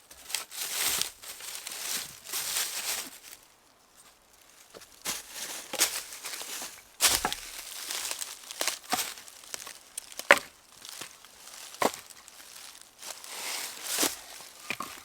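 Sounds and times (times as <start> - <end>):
dry material cracking and rustling: 0.0 - 15.0.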